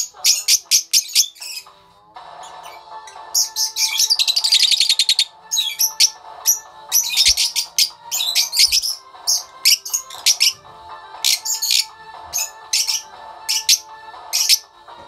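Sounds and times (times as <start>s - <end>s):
lovebirds chirping and squeaking: 0.0s - 14.8s.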